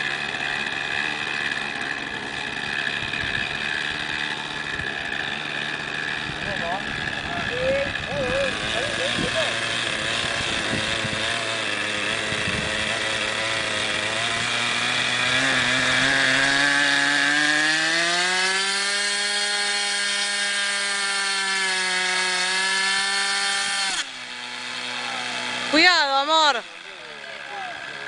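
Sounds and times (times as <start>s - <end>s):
model airplane engine running: 0.0s - 28.0s.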